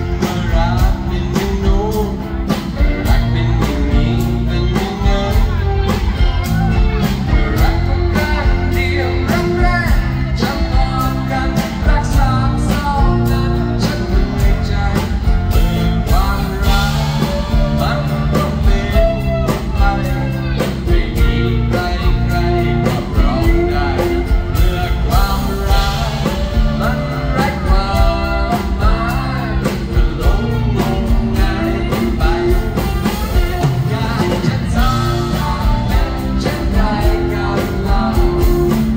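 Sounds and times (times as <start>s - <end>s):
bass: 0.0s - 38.9s
man singing: 0.0s - 38.9s
steady drumbeat: 0.0s - 38.9s.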